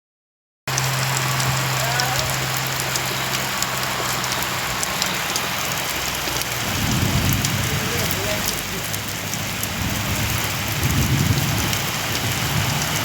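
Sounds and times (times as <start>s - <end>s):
heavy rain falling: 0.7s - 13.0s
low rumble: 0.7s - 13.0s
raindrops ticking on surfaces: 0.7s - 13.0s.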